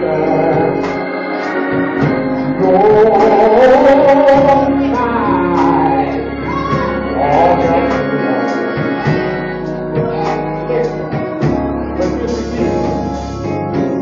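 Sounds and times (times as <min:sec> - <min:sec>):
drum kit: 0:00.0 - 0:14.0
electric keyboard playing: 0:00.0 - 0:14.0.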